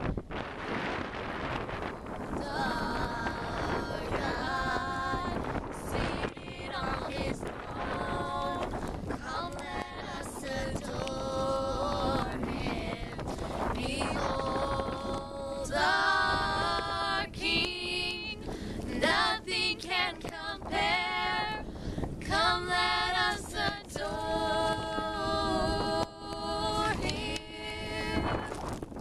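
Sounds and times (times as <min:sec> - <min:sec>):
girls singing a hymn in harmony: 0:02.2 - 0:28.6.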